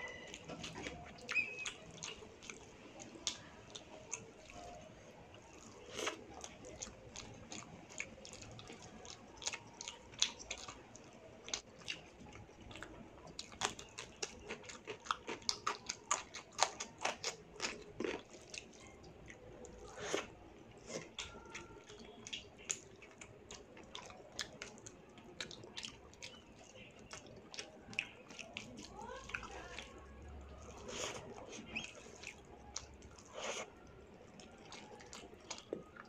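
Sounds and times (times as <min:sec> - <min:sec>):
close chewing: 0:00.0 - 0:36.0.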